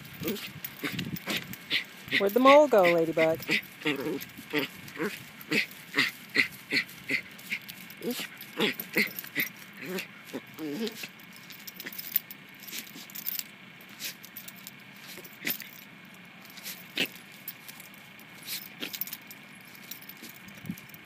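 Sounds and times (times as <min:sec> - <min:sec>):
collar tags jingling: 0:00.0 - 0:21.0
dog paws scraping soil: 0:00.0 - 0:21.0.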